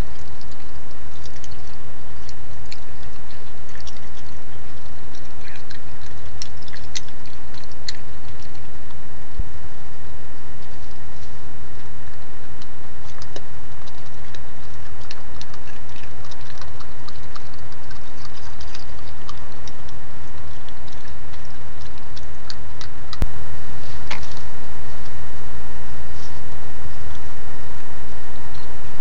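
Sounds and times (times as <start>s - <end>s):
raccoon paws clicking and scratching: 0.0s - 9.4s, 10.5s - 25.2s
faint high whine: 0.0s - 29.0s
steady electrical hum: 0.0s - 29.0s.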